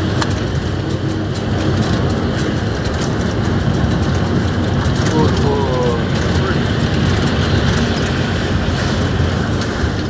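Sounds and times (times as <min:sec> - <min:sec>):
locomotive engine drone: 0:00.0 - 0:10.0
rail noise: 0:00.0 - 0:10.0.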